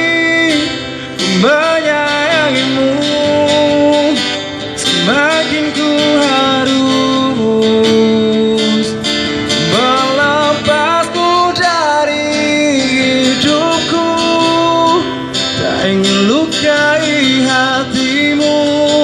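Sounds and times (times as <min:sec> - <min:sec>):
man singing into a microphone: 0:00.0 - 0:19.0
strummed acoustic guitar: 0:00.0 - 0:19.0.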